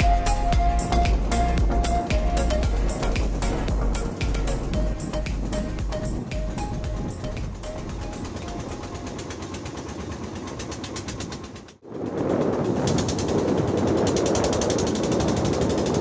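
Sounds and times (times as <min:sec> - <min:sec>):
wind noise: 0:00.0 - 0:09.2, 0:11.2 - 0:16.0
boat engine chugging: 0:00.0 - 0:16.0
water noise: 0:00.0 - 0:16.0.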